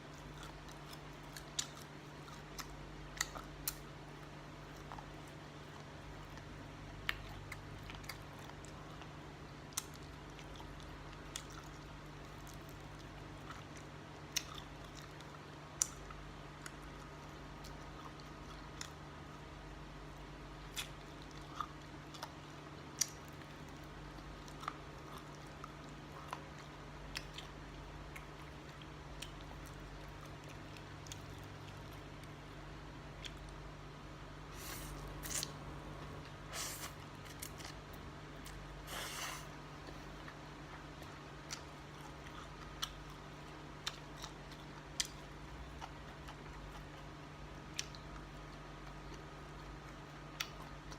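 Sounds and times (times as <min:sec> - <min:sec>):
chewing: 0:00.0 - 0:19.5, 0:20.6 - 0:32.4, 0:34.6 - 0:50.9
steady low hum: 0:00.0 - 0:50.9.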